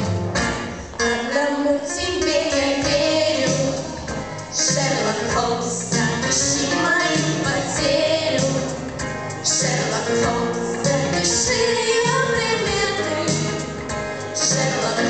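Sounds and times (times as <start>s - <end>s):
backing track with steady beat: 0.0s - 15.0s
girls singing a pop duet: 0.8s - 15.0s.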